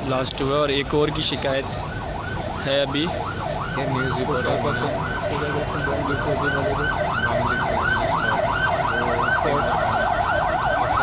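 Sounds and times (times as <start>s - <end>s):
emergency siren yelping: 1.0s - 11.0s.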